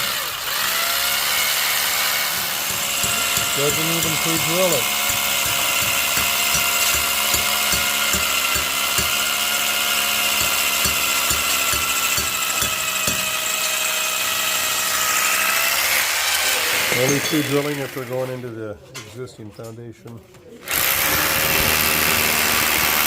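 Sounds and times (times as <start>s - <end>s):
power drill whining: 0.0s - 18.2s, 20.7s - 23.0s.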